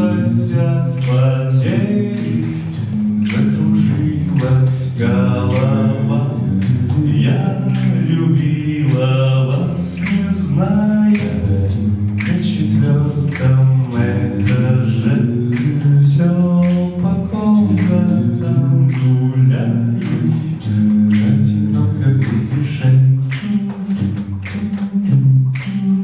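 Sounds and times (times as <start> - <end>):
men singing in harmony: 0.0 - 24.4.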